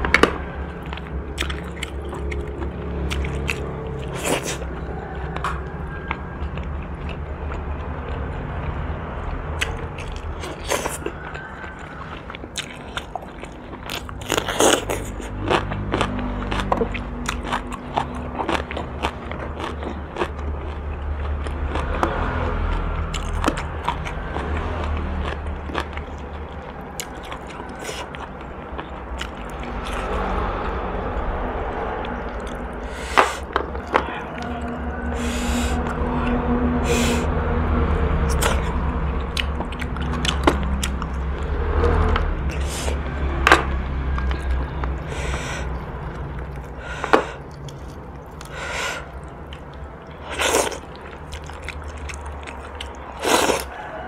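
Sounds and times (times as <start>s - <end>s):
chewing and biting meat: 0.0s - 30.8s, 38.2s - 54.0s.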